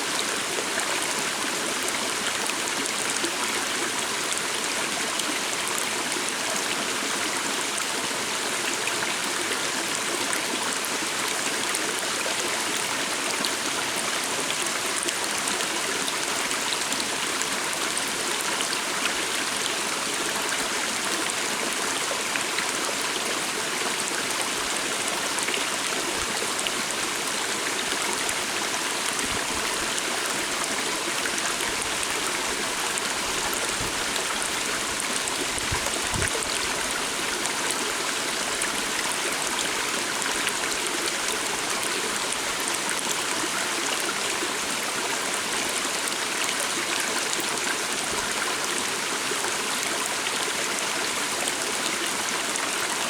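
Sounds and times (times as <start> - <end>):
small stream flowing: 0.0 - 53.0.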